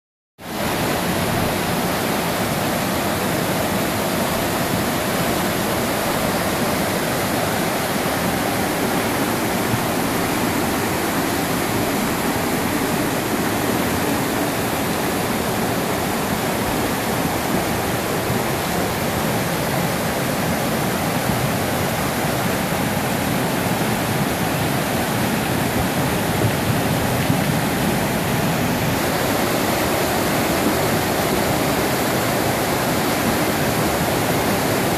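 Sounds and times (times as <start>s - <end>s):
floodwater rushing: 0.4s - 34.9s.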